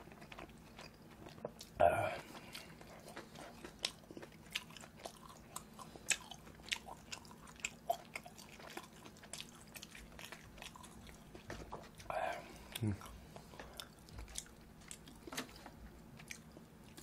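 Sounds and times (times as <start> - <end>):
close chewing: 0.0 - 17.0.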